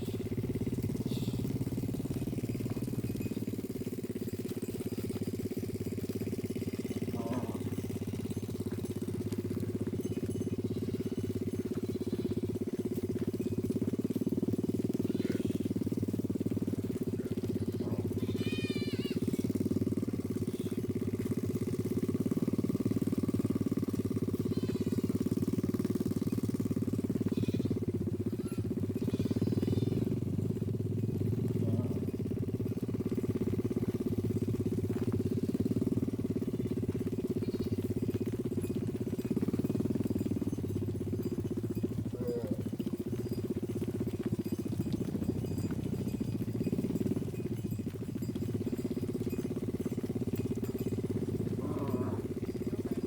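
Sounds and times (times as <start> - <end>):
small engine humming: 0.0 - 53.0.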